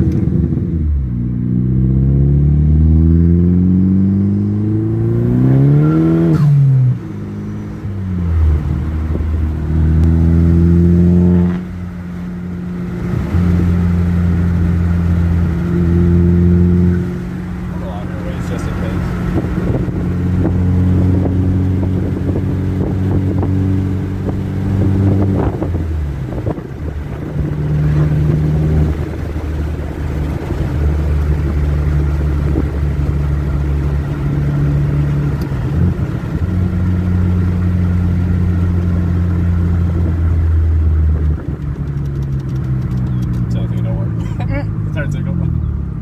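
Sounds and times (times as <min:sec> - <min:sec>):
car engine drone from inside cabin: 0:00.0 - 0:46.0.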